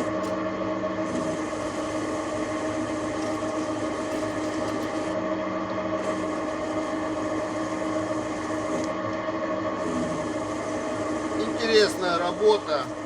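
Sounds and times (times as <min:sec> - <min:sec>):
bench lathe running: 0:00.0 - 0:13.0.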